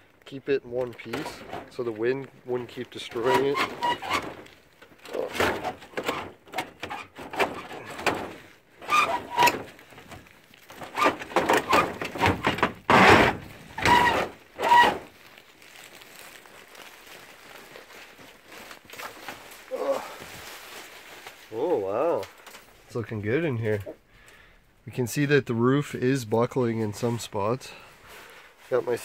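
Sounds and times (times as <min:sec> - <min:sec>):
plastic tarp rustling and crinkling: 0:00.0 - 0:23.9, 0:26.0 - 0:29.0.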